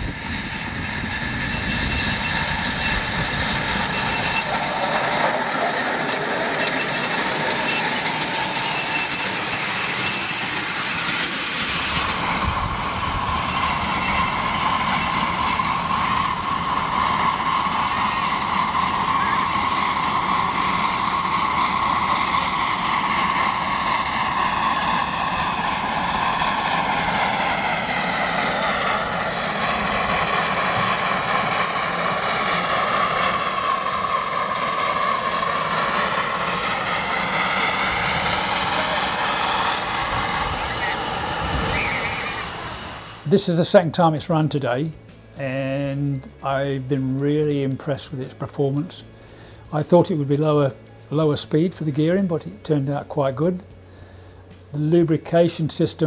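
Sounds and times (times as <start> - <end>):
wheels rolling on rail: 0.0 - 53.8
miniature steam train: 0.0 - 56.0
steady drone: 0.0 - 56.0.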